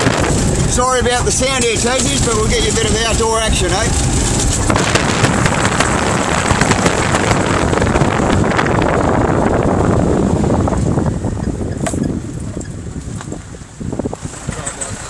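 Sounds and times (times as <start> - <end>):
off-road vehicle engine and tyres: 0.0 - 15.0
wind buffeting microphone: 0.0 - 15.0.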